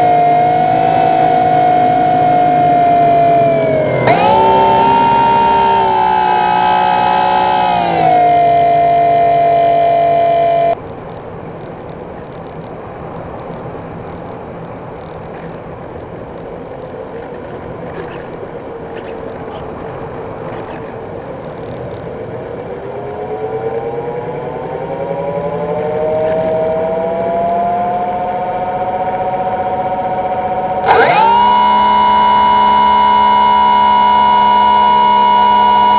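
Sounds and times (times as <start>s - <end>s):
electric motor and propeller whine: 0.0s - 10.8s, 15.1s - 35.9s.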